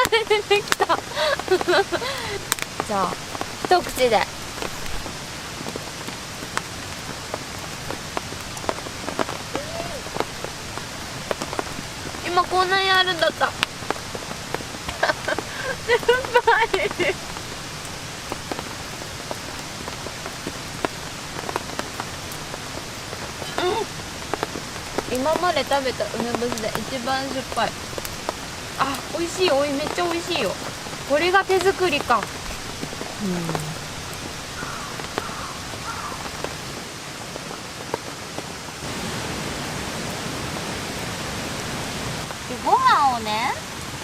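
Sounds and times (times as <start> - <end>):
raindrops ticking close by: 0.0 - 44.0
steady rain: 0.0 - 44.0.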